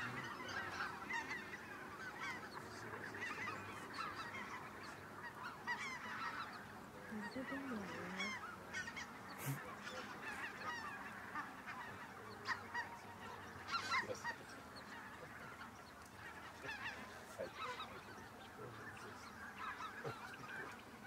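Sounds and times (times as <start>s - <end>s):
flock of geese honking: 0.0s - 21.0s.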